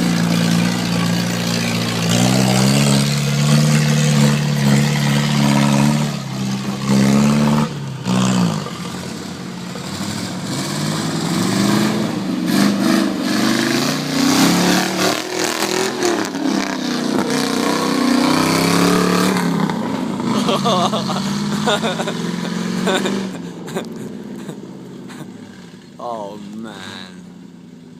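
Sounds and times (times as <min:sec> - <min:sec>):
off-road vehicle engine revving: 0:00.0 - 0:27.9.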